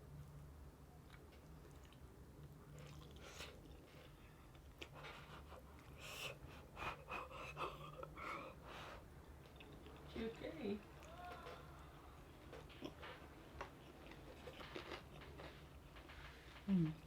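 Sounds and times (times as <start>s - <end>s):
chewing crunchy fried chicken: 0.9s - 7.2s, 9.0s - 16.6s.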